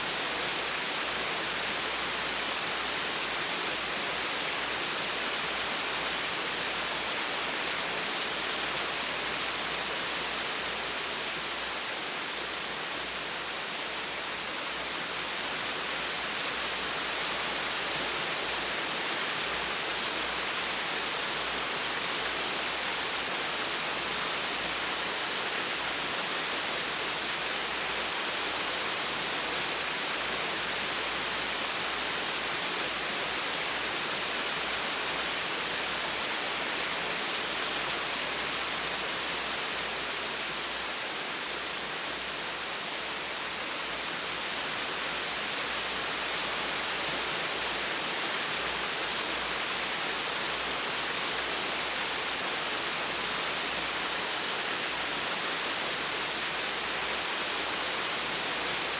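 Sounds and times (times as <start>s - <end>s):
small waterfall splashing: 0.0s - 58.9s.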